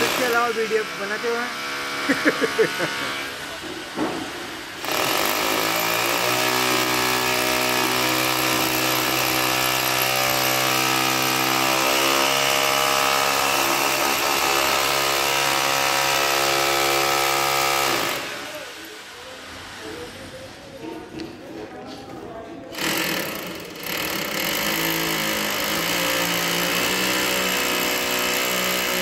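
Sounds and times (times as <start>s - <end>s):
electric drill whining: 0.0s - 3.4s, 4.8s - 18.5s, 22.8s - 29.0s.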